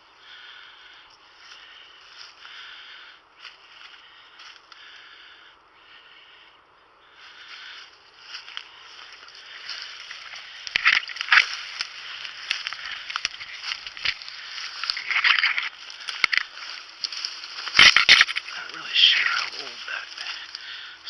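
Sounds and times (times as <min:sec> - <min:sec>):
footsteps through wet bog: 0:00.0 - 0:21.0
twigs cracking underfoot: 0:00.3 - 0:06.1, 0:07.1 - 0:21.0.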